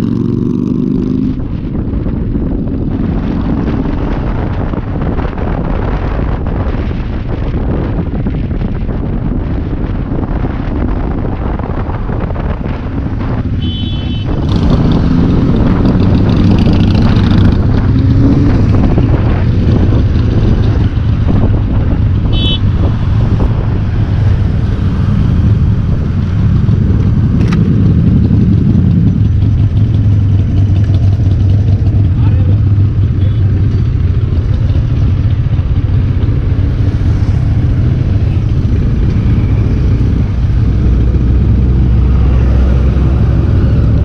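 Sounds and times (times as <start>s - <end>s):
motorcycle engine drone: 0.0s - 44.0s
wind rushing over microphone: 0.0s - 44.0s.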